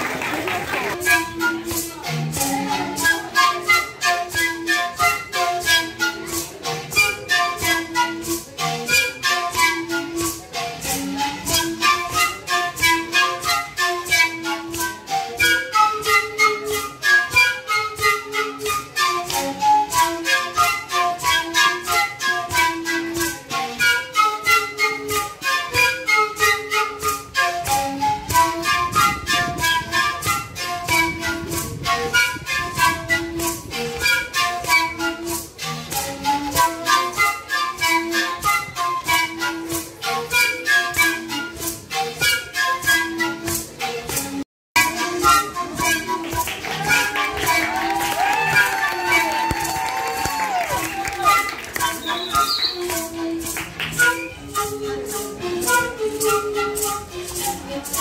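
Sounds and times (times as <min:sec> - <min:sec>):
maracas shaking: 0:00.0 - 0:58.0
panpipes melody: 0:00.8 - 0:58.0.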